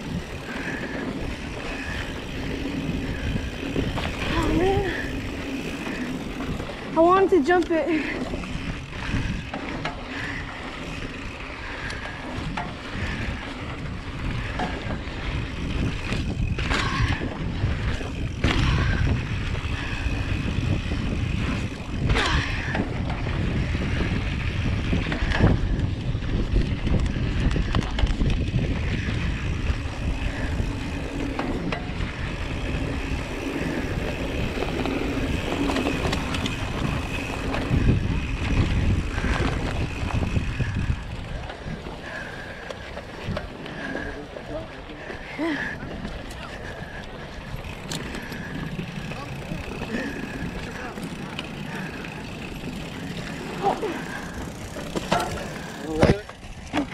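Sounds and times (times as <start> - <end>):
bike clattering over bumps: 0.0 - 56.9
tyres rumbling on dirt: 0.0 - 56.9
wind buffeting microphone: 0.0 - 56.9.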